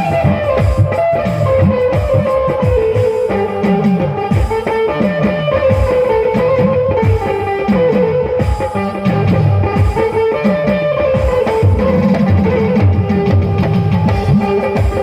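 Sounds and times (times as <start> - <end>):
plucked guitar-like melody: 0.0 - 15.0.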